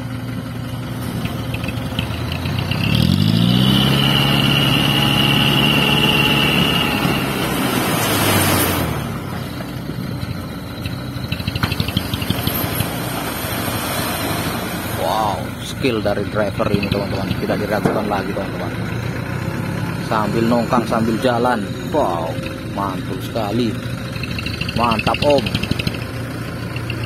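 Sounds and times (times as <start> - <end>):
diesel truck engine revving: 0.0 - 27.0.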